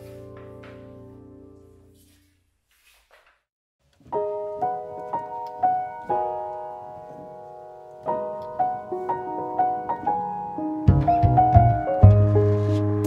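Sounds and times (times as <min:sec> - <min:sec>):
piano music: 0:00.0 - 0:02.1, 0:04.0 - 0:13.0.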